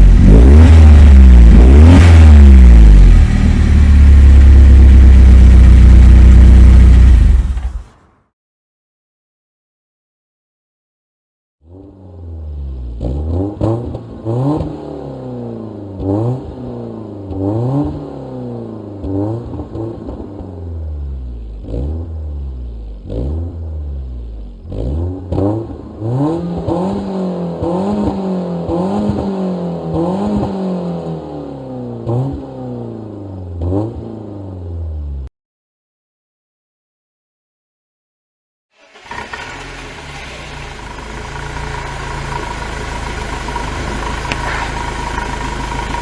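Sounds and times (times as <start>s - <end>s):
car engine revving: 0.0s - 8.1s, 11.7s - 34.7s, 38.8s - 46.0s.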